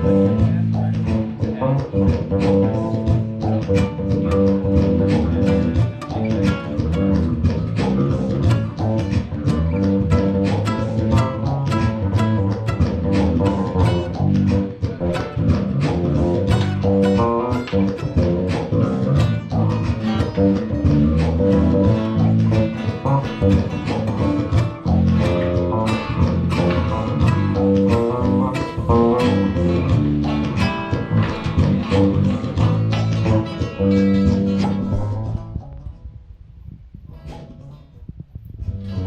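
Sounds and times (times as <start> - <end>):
plucked guitar: 0.0 - 36.3, 37.1 - 39.0
bass line: 0.0 - 39.0.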